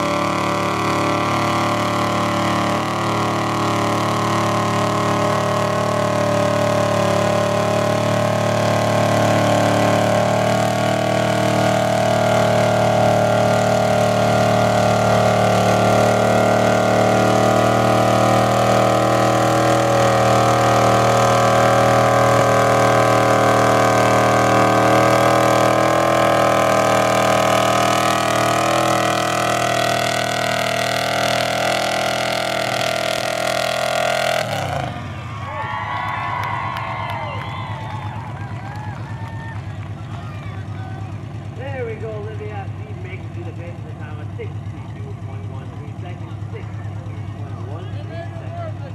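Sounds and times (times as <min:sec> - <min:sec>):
truck engine at high revs: 0:00.0 - 0:48.9.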